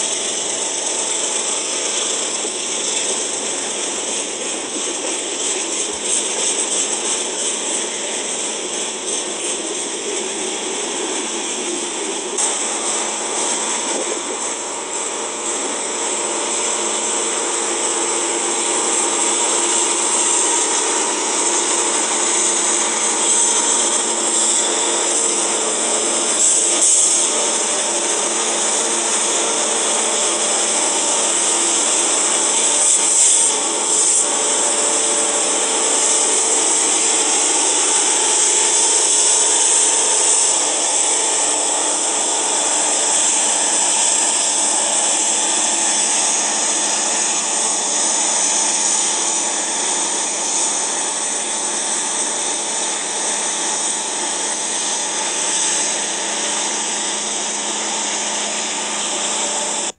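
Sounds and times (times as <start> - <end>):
steel train wheels on rail: 0.0 - 59.9.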